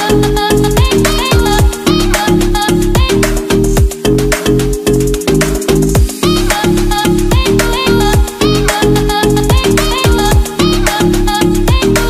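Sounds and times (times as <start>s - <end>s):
music with quick beat: 0.0s - 12.0s.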